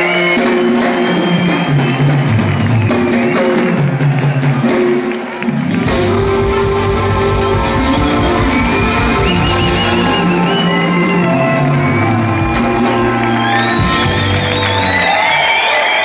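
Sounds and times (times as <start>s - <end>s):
ska band playing live: 0.0s - 15.6s
crowd whooping and cheering: 0.0s - 16.0s.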